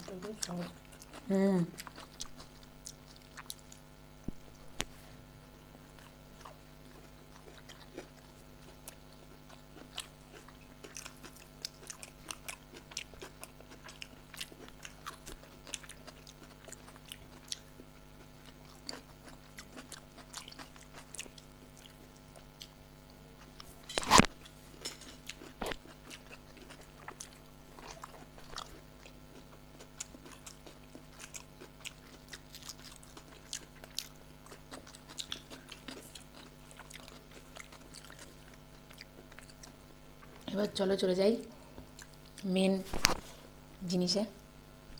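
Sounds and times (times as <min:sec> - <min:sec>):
chewing and biting: 0:00.0 - 0:05.1, 0:05.7 - 0:40.5.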